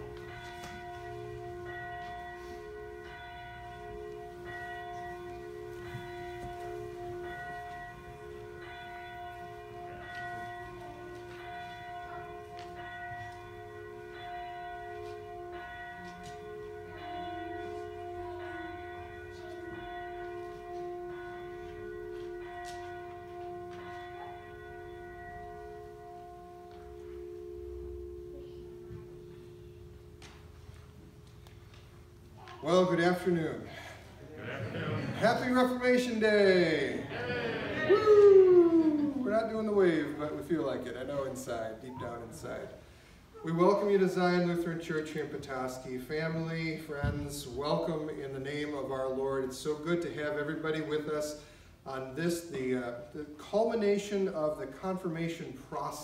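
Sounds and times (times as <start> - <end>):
church bell ringing: 0.0 - 56.0.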